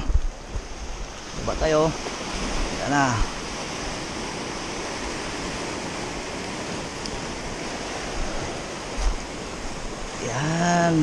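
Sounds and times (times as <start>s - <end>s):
surf washing over pebbles: 0.0s - 11.0s.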